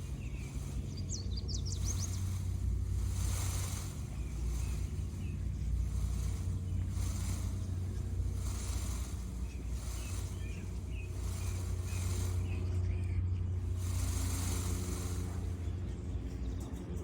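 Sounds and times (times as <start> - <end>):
feathers rattling: 0.0 - 17.0
small bird chirps: 0.0 - 17.0
steady low rumble: 0.0 - 17.0.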